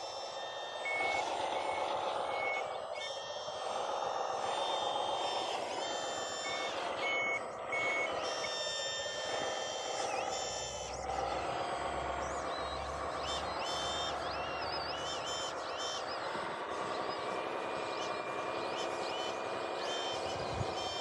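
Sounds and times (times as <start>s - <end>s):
reversing beeper beeps: 0.0s - 21.0s
small electric motors whining: 0.0s - 21.0s.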